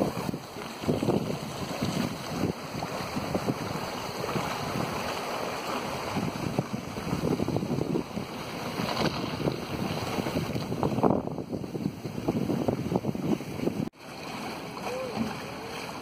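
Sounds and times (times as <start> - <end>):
wind buffeting microphone: 0.0 - 14.0
water rushing along boat hull: 0.0 - 16.0.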